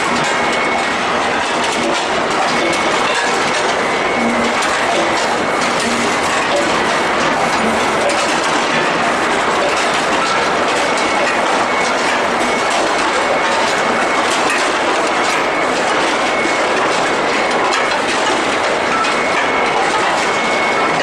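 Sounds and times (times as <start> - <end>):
metallic clatter and rumble: 0.0 - 21.0.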